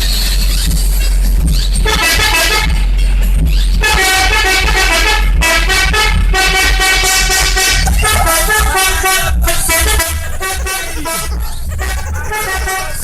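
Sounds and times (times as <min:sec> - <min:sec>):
pulsing low bass: 0:00.0 - 0:13.0.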